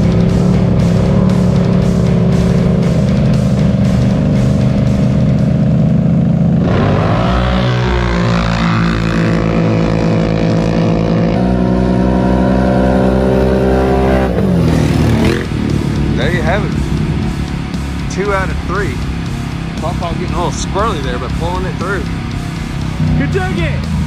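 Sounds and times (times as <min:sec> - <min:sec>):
atv engines accelerating: 0:00.0 - 0:24.0.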